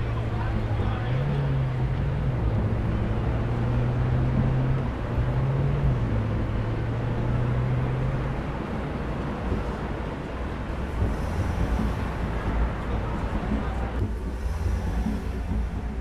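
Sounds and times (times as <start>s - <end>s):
road noise: 0.0s - 16.0s
vehicle interior hum: 0.0s - 16.0s.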